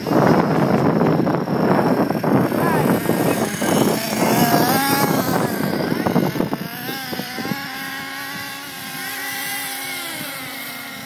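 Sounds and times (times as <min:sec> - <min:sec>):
toy car motor whining: 0:00.0 - 0:11.0.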